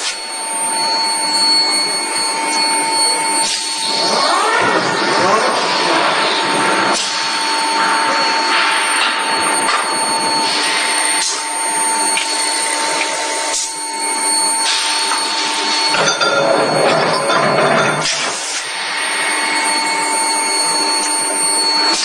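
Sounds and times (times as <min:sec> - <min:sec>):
forging press machine whine: 0:00.0 - 0:22.0.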